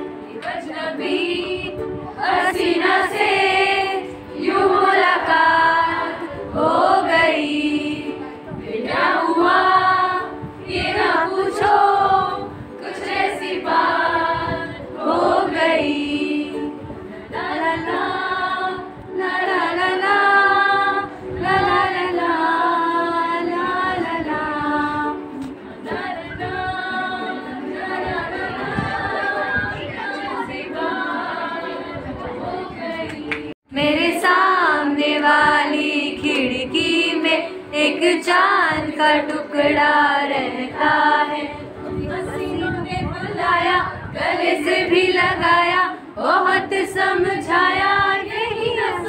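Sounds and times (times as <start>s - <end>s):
women singing together: 0.0s - 49.0s.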